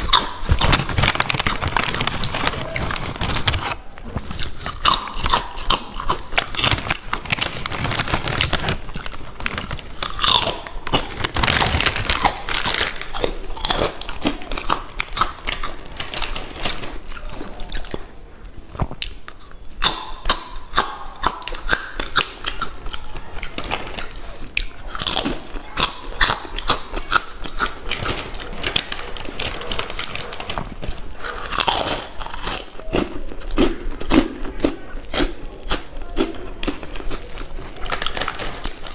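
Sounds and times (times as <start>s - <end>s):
crunchy chips chewing: 0.0s - 38.9s.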